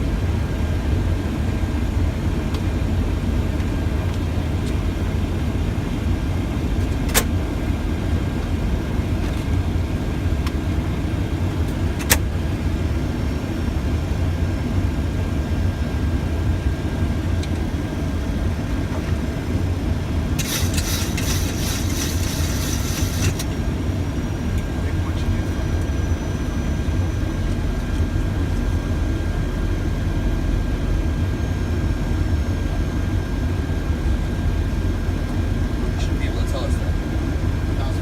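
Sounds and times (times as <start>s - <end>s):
low rumble of airflow and engines: 0.0s - 38.0s.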